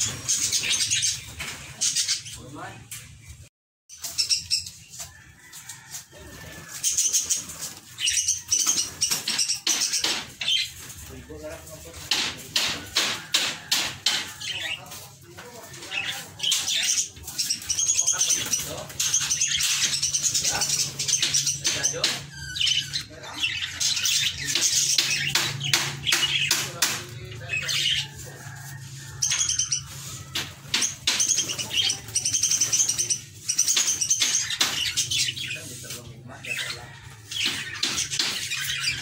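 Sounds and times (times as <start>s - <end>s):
budgerigars chirping: 6.7s - 39.0s.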